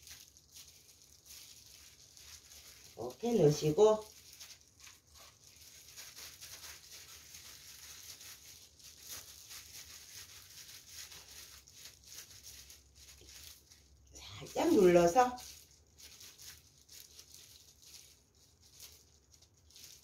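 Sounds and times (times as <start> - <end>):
plastic gloves crinkling: 0.0 - 20.0.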